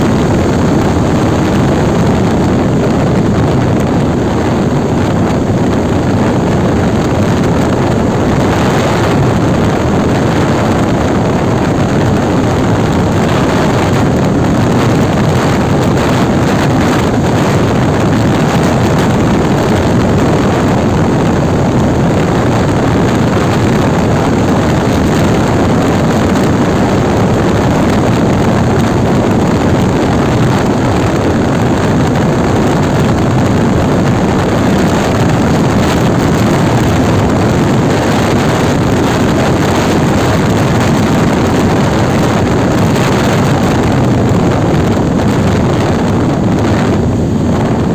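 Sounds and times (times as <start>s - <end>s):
motorcycle engine running: 0.0s - 47.9s
wind rush on microphone: 0.0s - 47.9s.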